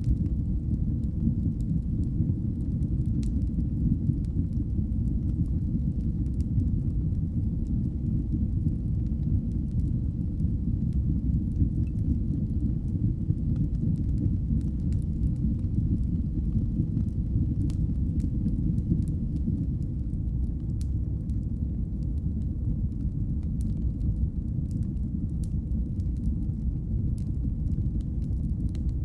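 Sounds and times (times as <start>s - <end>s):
fire crackling and popping: 0.0s - 29.0s
fire roaring: 0.0s - 29.0s.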